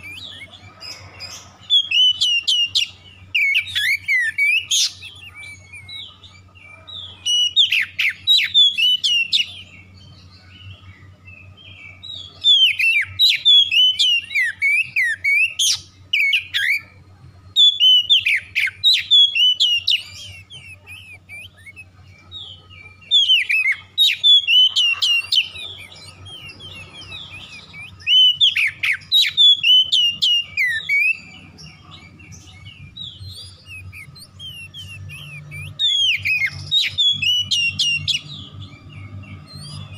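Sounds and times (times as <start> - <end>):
bird singing whistled phrases: 0.0 - 1.0, 1.6 - 10.0, 11.9 - 22.4, 23.0 - 39.9.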